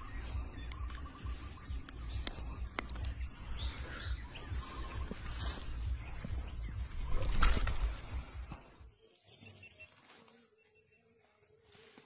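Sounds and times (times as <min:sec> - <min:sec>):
chirping trills: 0:00.0 - 0:10.0
insects buzzing: 0:00.0 - 0:12.0.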